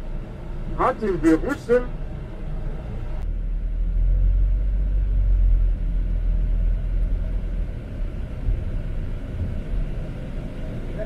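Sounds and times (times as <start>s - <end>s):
coach engine and tyres rumbling: 0.0s - 11.0s.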